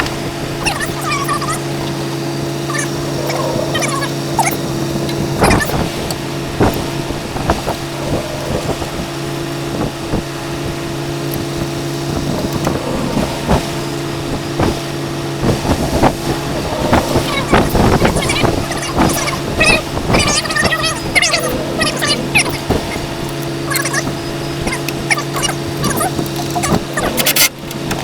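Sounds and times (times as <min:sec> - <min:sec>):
engine-like hum: 0:00.0 - 0:28.0.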